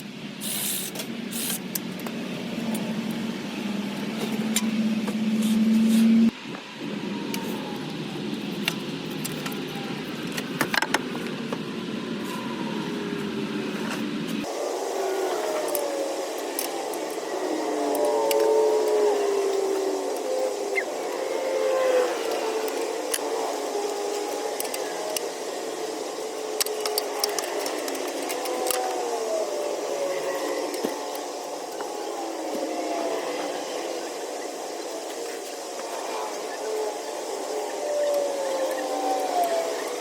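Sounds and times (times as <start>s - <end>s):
wavering mechanical hum: 0.0s - 40.0s.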